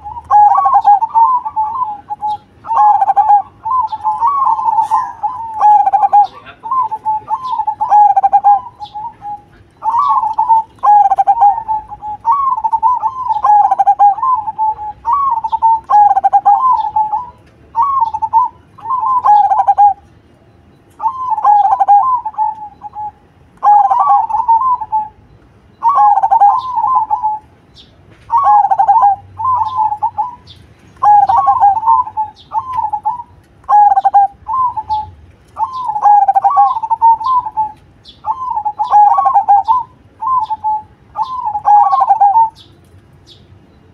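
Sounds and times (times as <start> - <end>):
dove cooing: 0.0 - 20.1, 21.0 - 42.7.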